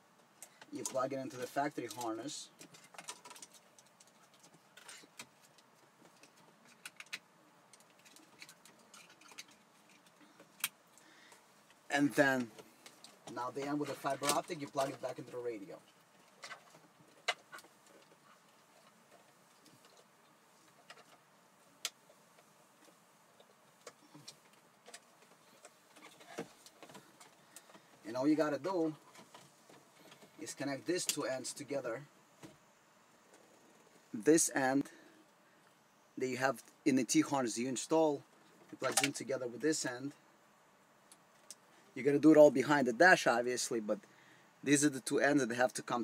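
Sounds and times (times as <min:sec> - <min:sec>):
wires rustling: 0:00.0 - 0:40.2.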